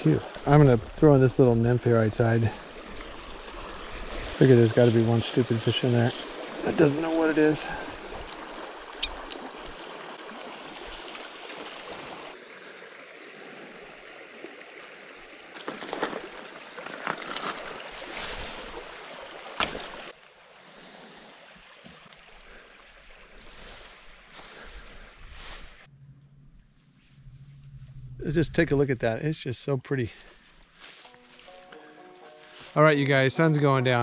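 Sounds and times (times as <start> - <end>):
creek running over rocks: 0.0 - 25.9, 28.6 - 34.0.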